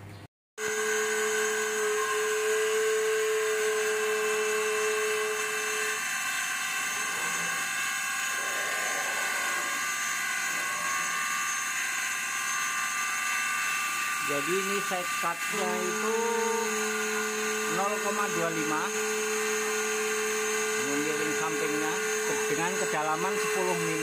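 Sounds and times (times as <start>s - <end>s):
router spindle milling metal: 0.6s - 24.0s.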